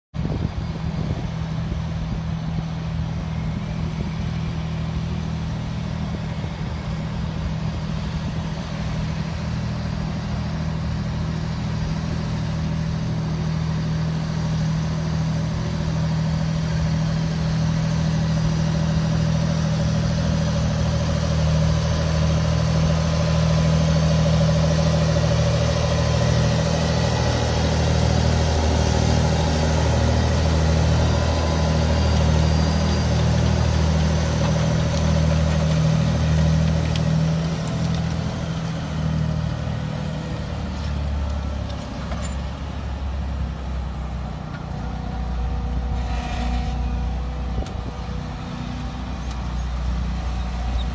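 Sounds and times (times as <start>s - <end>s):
tractor diesel engine under load: 0.2s - 50.9s.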